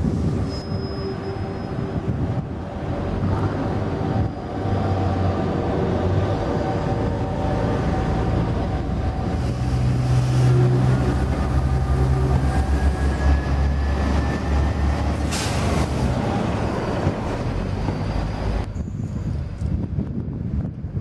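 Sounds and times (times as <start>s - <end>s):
rail vehicle rumbling: 0.0s - 21.0s.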